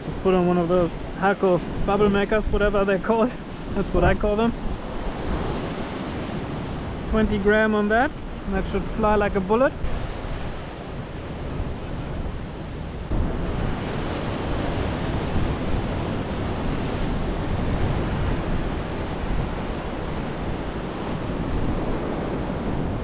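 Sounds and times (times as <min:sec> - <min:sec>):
ocean surf washing: 0:00.0 - 0:23.0
wind on microphone: 0:00.0 - 0:23.0.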